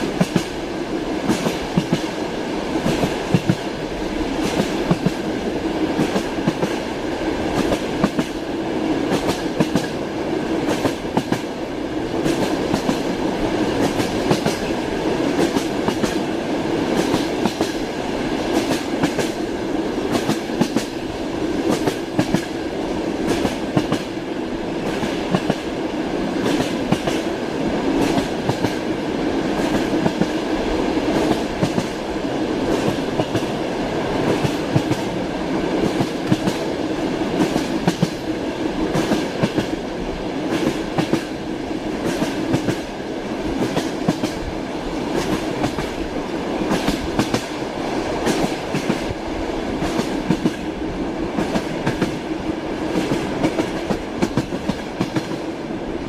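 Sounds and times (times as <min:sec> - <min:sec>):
train wheels clacking: 0:00.0 - 0:00.6, 0:01.2 - 0:02.2, 0:02.8 - 0:05.3, 0:05.9 - 0:08.4, 0:09.0 - 0:10.0, 0:10.6 - 0:21.0, 0:21.6 - 0:22.6, 0:23.2 - 0:24.2, 0:24.8 - 0:25.7, 0:26.4 - 0:39.8, 0:40.5 - 0:43.0, 0:43.6 - 0:46.0, 0:46.7 - 0:50.7, 0:51.3 - 0:52.3, 0:52.9 - 0:55.5
train rolling rumble: 0:00.0 - 0:56.0.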